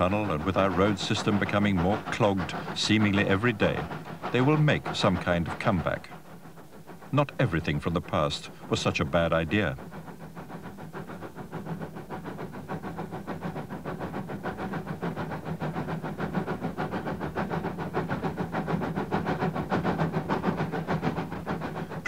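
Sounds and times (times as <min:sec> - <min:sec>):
steam locomotive exhaust chuffing: 0:00.0 - 0:22.0.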